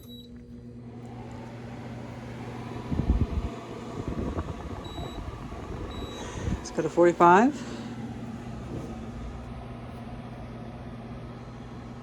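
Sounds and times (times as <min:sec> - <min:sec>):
dehumidifier fan whooshing: 0:00.0 - 0:12.0
low hum: 0:00.0 - 0:12.0.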